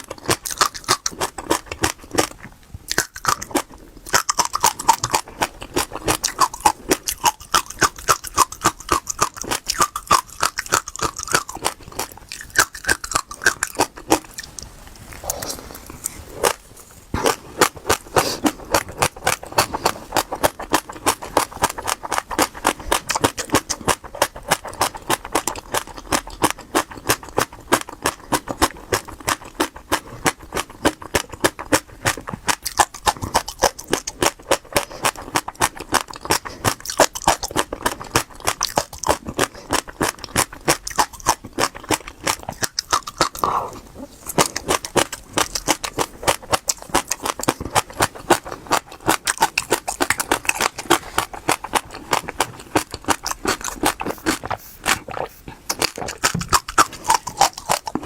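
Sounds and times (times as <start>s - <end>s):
seeds crunching while chewed: 0.0s - 58.0s.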